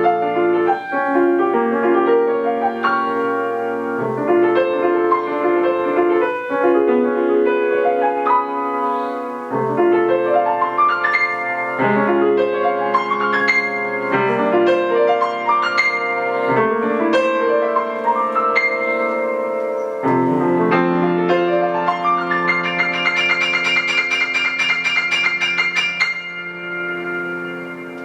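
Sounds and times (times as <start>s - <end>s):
solo piano piece: 0.0s - 28.0s.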